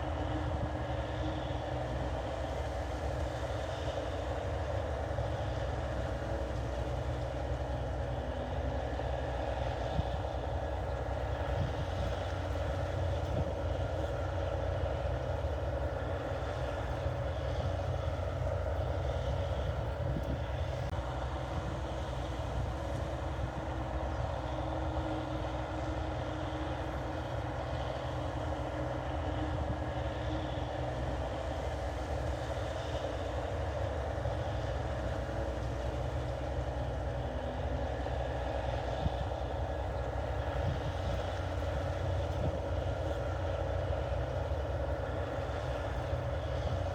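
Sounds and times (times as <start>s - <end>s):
combine harvester engine running: 0.0s - 46.9s.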